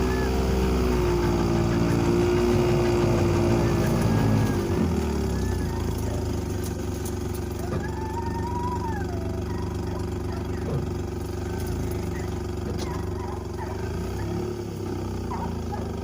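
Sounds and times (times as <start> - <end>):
motor engine running: 0.0 - 16.0.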